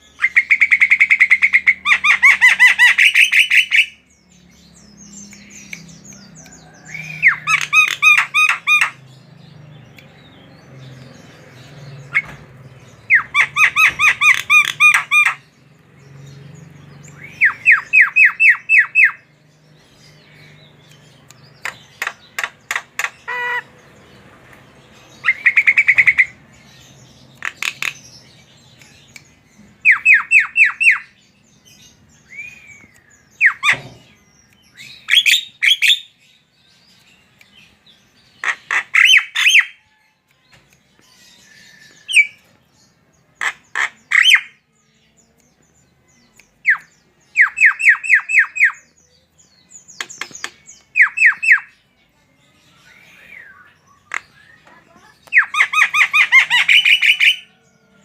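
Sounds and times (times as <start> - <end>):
harsh clicking bird calls: 0.0 - 51.9, 52.8 - 58.0.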